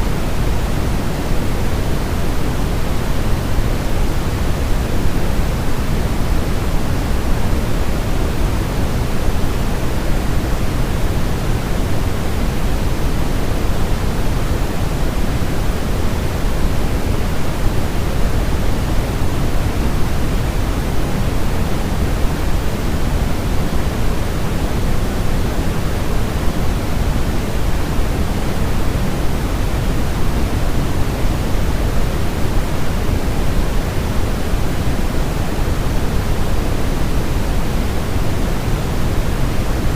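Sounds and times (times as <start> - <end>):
deep white noise hiss: 0.0 - 39.9.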